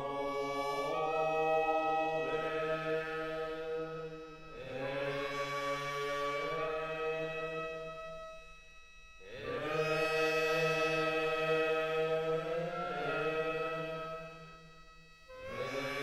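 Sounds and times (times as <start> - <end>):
slow chanting: 0.0 - 16.0.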